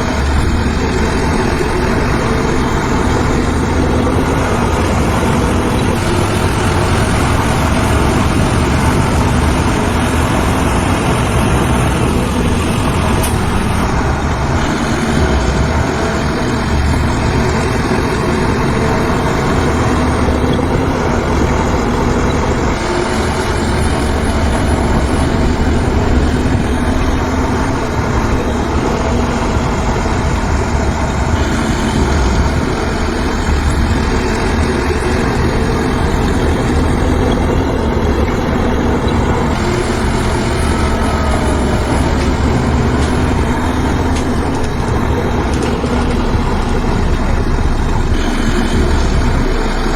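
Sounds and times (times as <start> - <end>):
heavy diesel machinery rumbling: 0.0 - 49.9.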